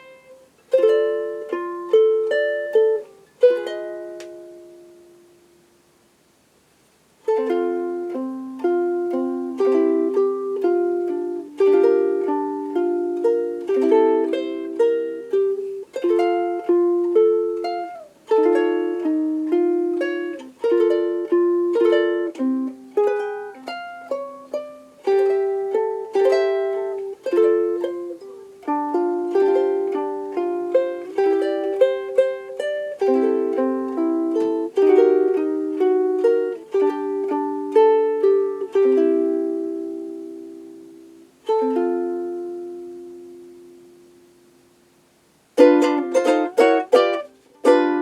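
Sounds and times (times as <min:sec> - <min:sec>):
ukulele chord-melody playing: 0:00.0 - 0:05.7, 0:07.2 - 0:48.0.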